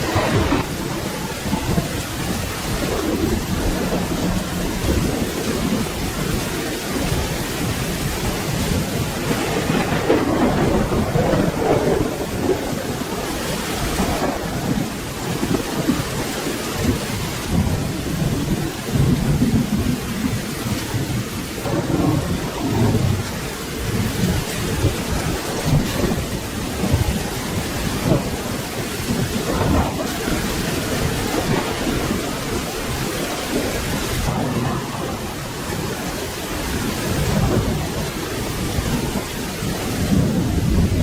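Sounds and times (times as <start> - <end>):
rolling thunder: 0.0 - 41.0
steady rain: 0.0 - 41.0.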